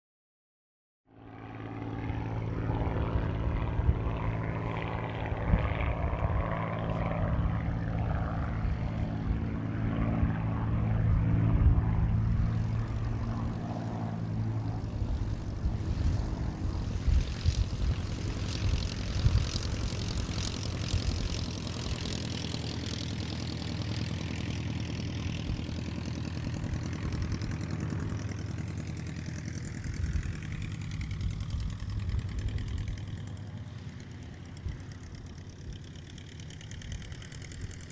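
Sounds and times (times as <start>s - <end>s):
propeller plane engine: 1.0s - 37.9s.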